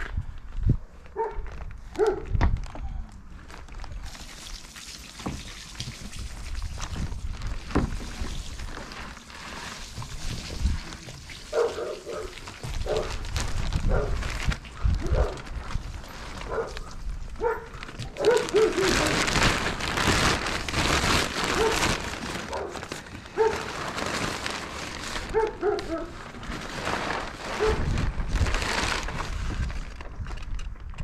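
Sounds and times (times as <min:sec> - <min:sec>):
plastic sheeting crinkling: 0:00.0 - 0:31.0.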